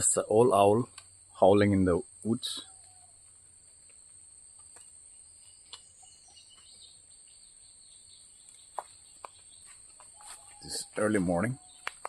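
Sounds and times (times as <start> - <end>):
bird chirps: 0.0 - 12.0
insects trilling: 0.0 - 12.0.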